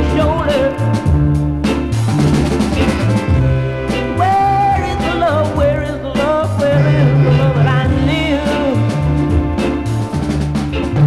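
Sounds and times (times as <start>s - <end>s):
soul music from a vinyl record: 0.0s - 11.0s.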